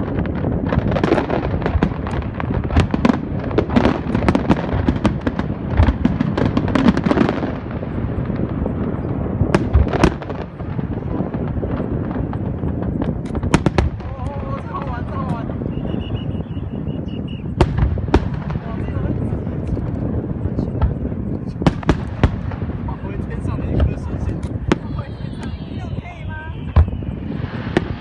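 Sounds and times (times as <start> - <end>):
continuous rumble: 0.0 - 28.0
fireworks cracks and bangs: 0.0 - 28.0.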